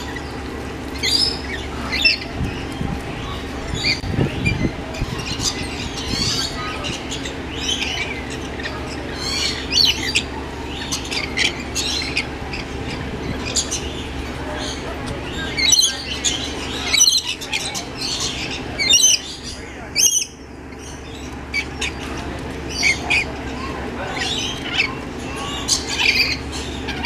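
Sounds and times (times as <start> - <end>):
parrots squawking and chattering: 0.0 - 27.0
steady low hum: 0.0 - 27.0.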